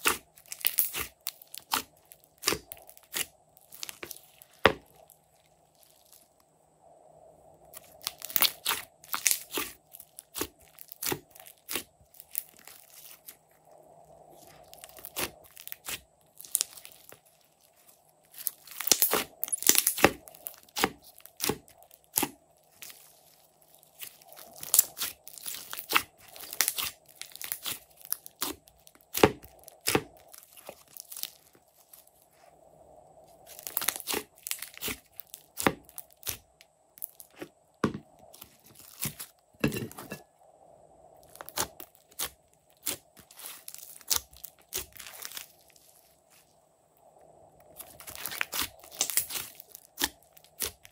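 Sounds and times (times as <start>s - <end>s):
slime crackling and popping: 0.0s - 5.2s, 7.7s - 13.4s, 14.4s - 32.0s, 33.5s - 37.5s, 38.3s - 39.3s, 41.2s - 46.4s, 47.7s - 50.9s.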